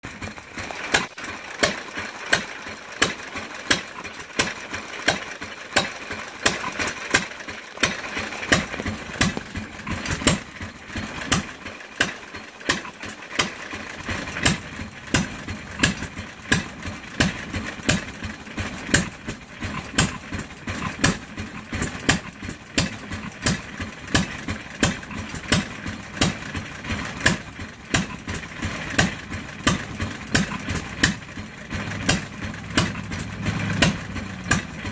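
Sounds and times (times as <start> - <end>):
stationary gas engine exhaust pops: 0.0 - 34.9.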